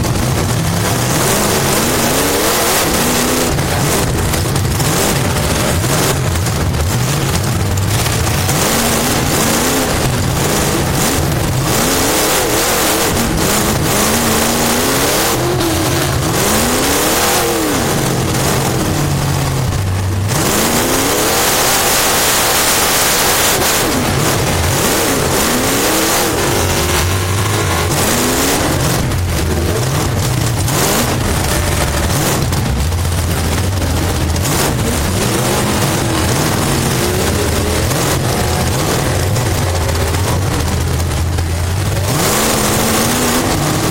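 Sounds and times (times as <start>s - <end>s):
race car engine roaring: 0.0s - 43.9s.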